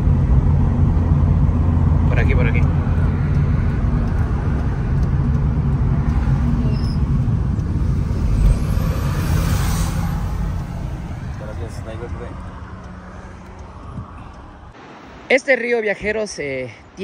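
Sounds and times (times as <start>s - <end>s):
car engine and tyre hum: 0.0s - 15.0s.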